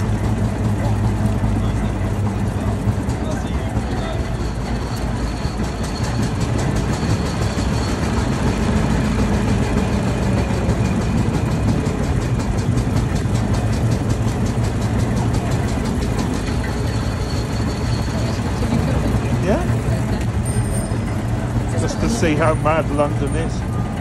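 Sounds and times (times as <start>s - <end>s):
single-cylinder engine running: 0.0s - 24.0s.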